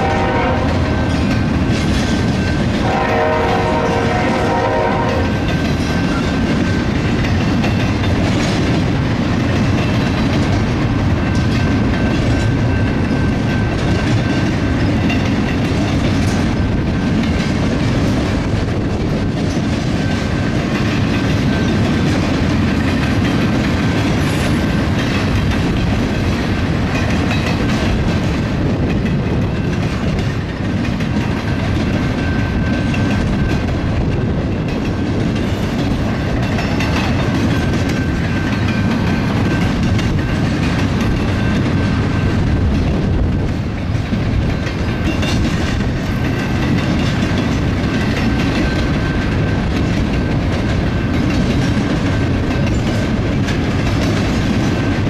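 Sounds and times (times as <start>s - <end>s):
train rumbling past: 0.0s - 55.0s
wheels clacking over rail joints: 0.0s - 55.0s.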